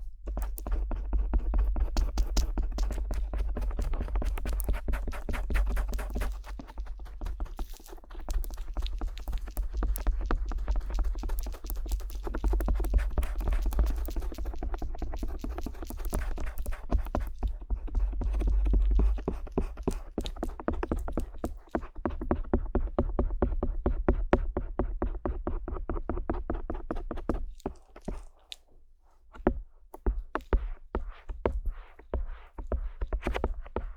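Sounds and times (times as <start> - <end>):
ear pick scratching and tapping: 0.0 - 33.9.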